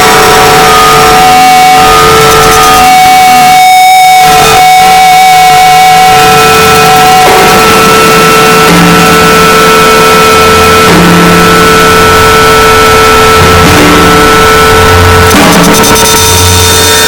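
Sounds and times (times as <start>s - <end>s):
distorted harsh noise music: 0.0s - 17.0s.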